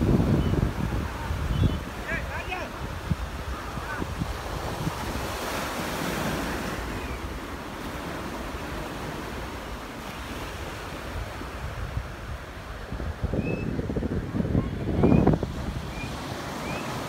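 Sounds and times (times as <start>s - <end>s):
sea surf breaking on a beach: 0.0s - 17.0s
wind rumbling on the microphone: 0.0s - 17.0s.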